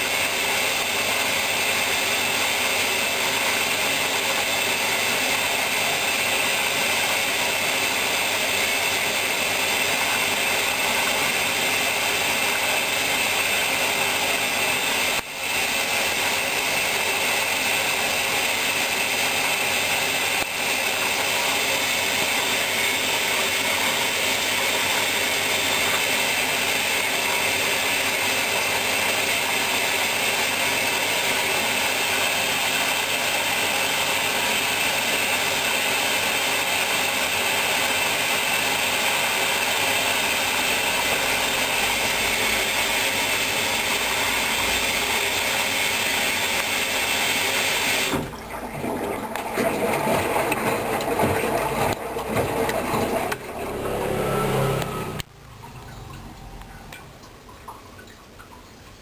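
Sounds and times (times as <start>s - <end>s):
washing machine whirring: 0.0s - 59.0s.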